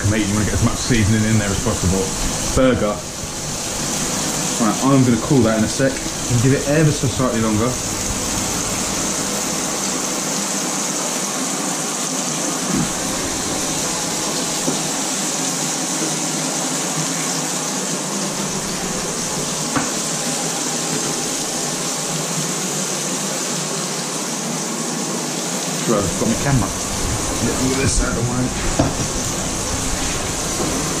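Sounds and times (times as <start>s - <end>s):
burger patties sizzling in a pan: 0.0s - 31.0s.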